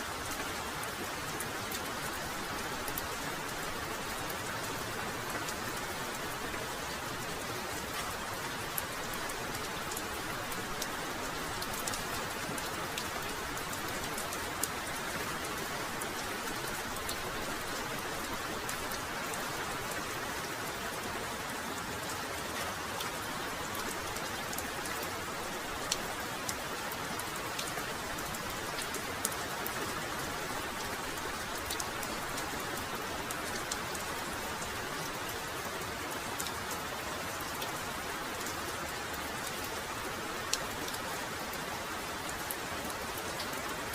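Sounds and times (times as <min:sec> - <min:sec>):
raindrops ticking close by: 0:00.0 - 0:43.9.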